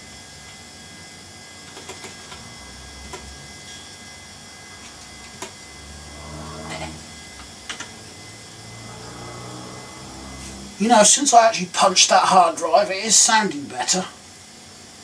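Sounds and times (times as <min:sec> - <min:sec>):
desktop computer fan whirring: 0:00.0 - 0:15.0.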